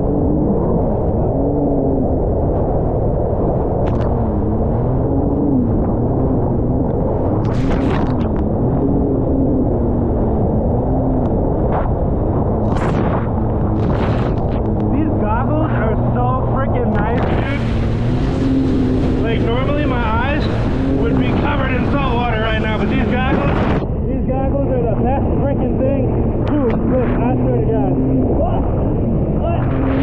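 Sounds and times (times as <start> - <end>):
jet ski engine: 0.0 - 30.0
wind rumble on microphone: 0.0 - 30.0.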